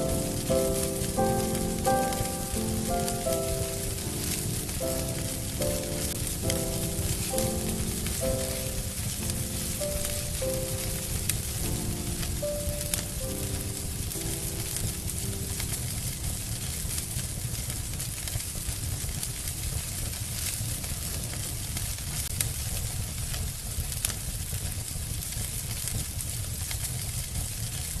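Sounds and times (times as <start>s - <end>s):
fire popping: 0.0s - 28.0s
log fire crackling: 0.0s - 28.0s.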